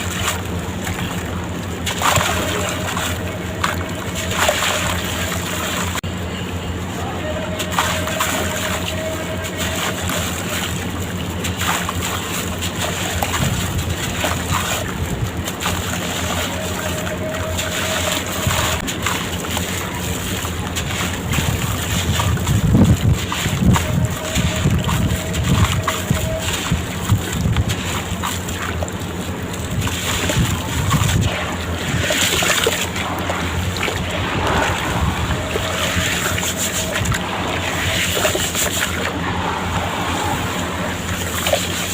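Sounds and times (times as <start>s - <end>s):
steady low hum: 0.0s - 41.9s
water splashing and sloshing: 0.0s - 41.9s.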